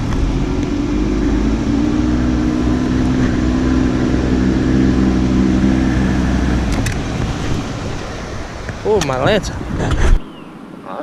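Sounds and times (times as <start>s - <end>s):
boat motor running: 0.0s - 10.9s.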